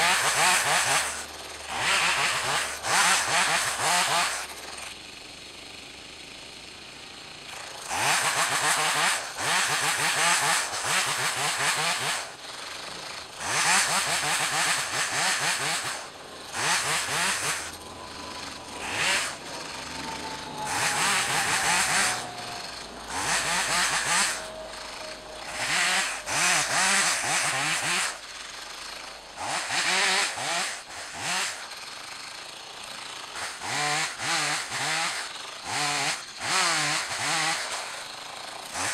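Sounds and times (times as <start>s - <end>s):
chainsaw revving and idling: 0.0s - 38.9s.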